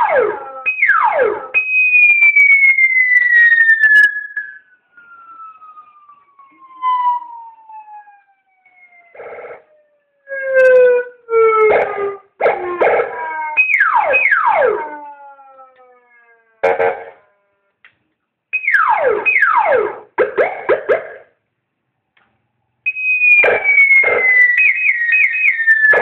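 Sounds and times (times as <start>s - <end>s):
electronic siren tones: 0.0s - 17.7s, 22.9s - 26.0s.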